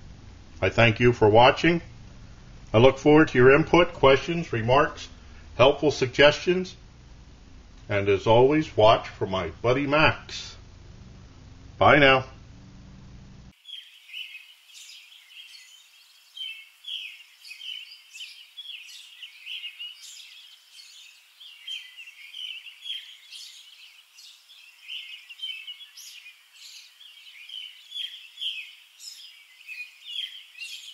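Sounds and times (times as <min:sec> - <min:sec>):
songbirds chirping: 0:00.0 - 0:12.8, 0:13.4 - 0:30.9.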